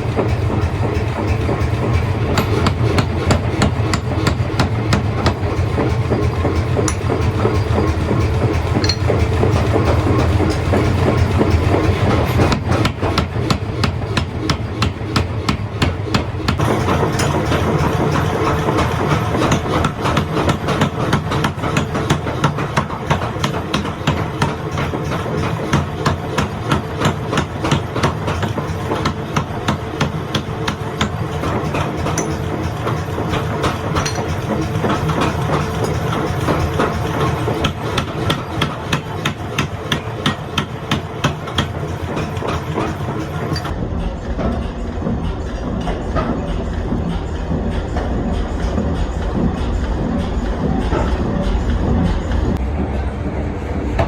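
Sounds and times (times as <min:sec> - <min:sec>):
power hammer striking: 0:00.0 - 0:43.8
low machine hum: 0:00.0 - 0:54.0.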